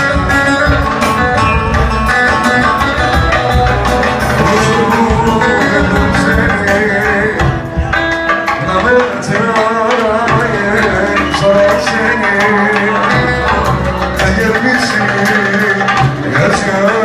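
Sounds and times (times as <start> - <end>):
hand drum rhythm: 0.0 - 17.0
live band melodic lines: 0.0 - 17.0.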